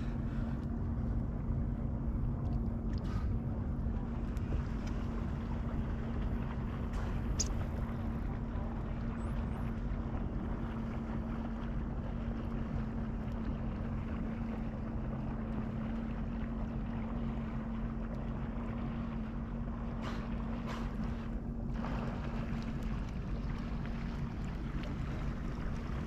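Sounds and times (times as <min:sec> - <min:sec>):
water noise: 0:00.0 - 0:26.0.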